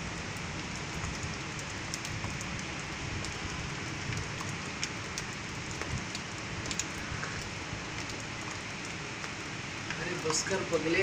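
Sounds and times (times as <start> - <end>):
sharp ticks of raindrops: 0.0 - 11.0
steady rain falling: 0.0 - 11.0.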